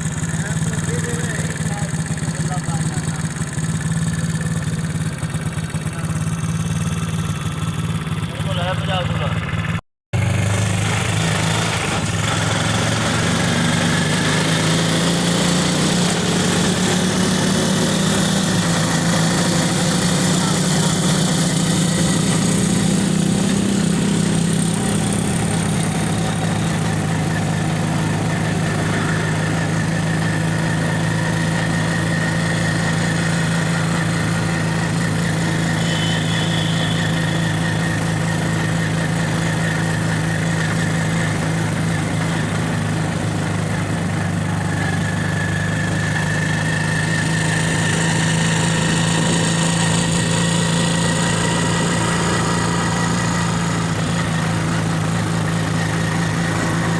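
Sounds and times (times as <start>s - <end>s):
vehicle engine running: 0.0s - 56.9s.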